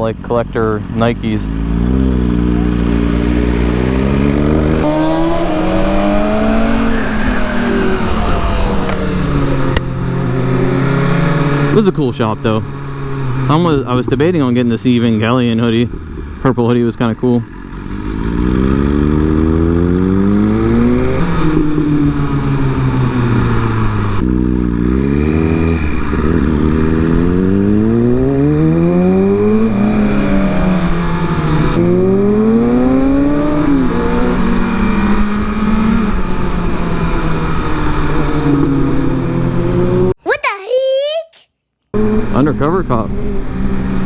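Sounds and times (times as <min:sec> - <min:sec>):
motorcycle engine revving: 0:00.0 - 0:40.2, 0:42.0 - 0:44.0.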